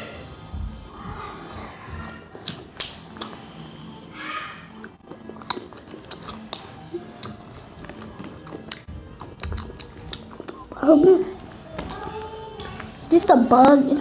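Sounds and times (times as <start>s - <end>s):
popcorn being chewed: 0.7s - 14.0s.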